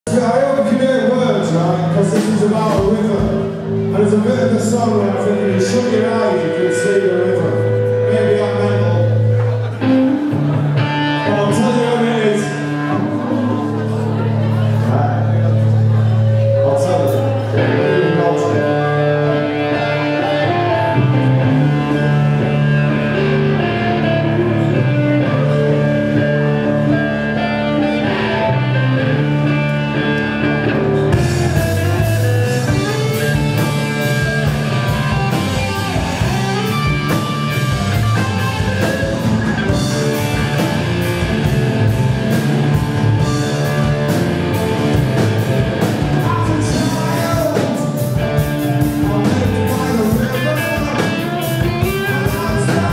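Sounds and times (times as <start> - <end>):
rock band playing: 0.1 - 52.9.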